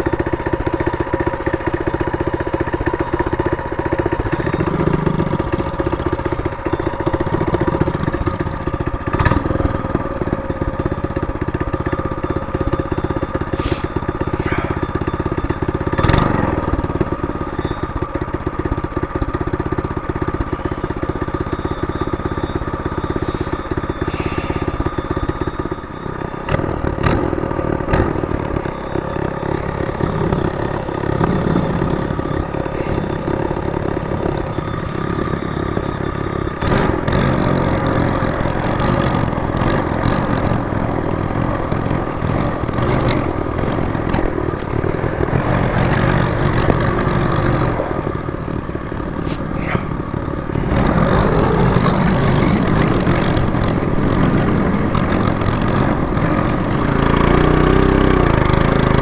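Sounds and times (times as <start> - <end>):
minibike engine revving: 0.0 - 59.0.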